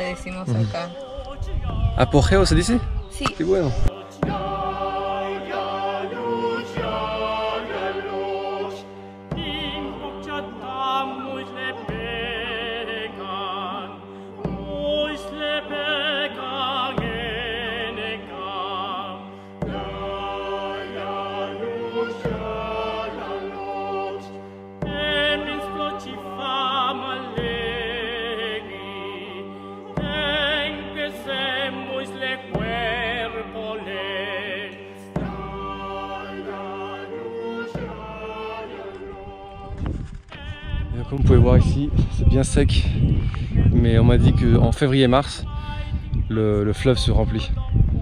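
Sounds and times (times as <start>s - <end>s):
operatic solo singing: 3.9s - 48.0s.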